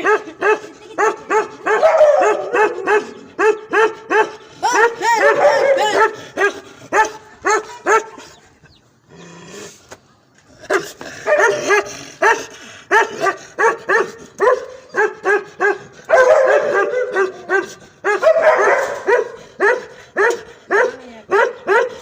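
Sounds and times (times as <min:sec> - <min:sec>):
dog barking: 0:00.0 - 0:08.3, 0:10.7 - 0:22.0.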